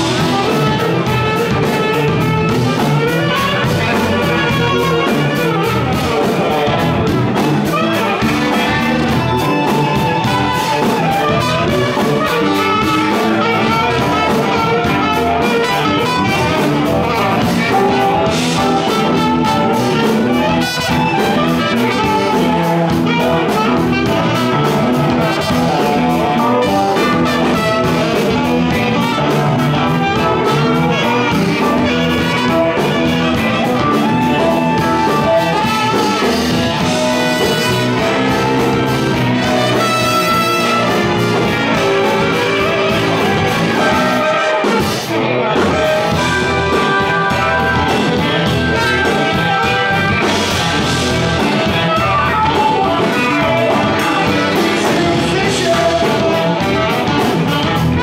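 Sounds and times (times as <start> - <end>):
drums: 0.0 - 58.0
keyboard: 0.0 - 58.0
saxophone and trumpet melody: 0.0 - 58.0.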